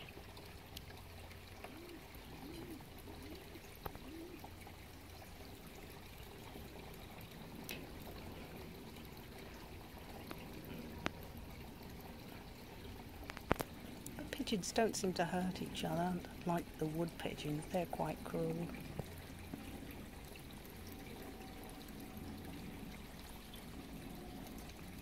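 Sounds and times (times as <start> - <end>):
small fountain trickling: 0.0 - 25.0.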